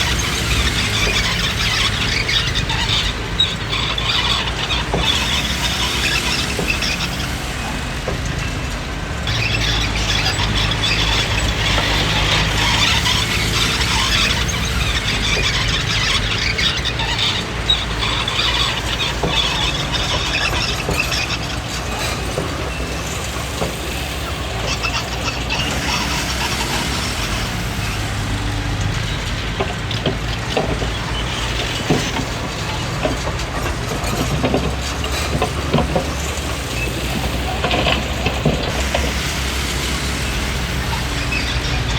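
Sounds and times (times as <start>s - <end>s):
bulldozer diesel engine running: 0.0s - 41.9s
steel tracks squealing: 0.0s - 41.9s.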